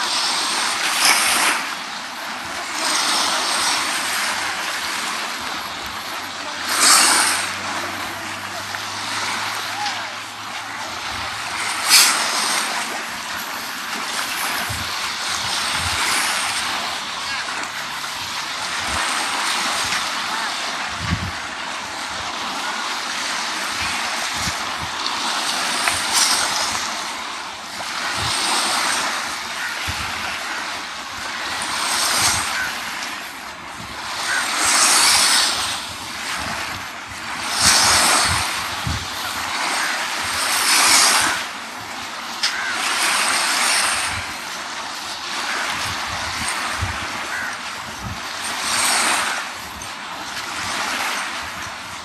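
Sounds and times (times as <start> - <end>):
sea waves washing onto beach: 0.0 - 52.0
wind buffeting microphone: 0.0 - 52.0.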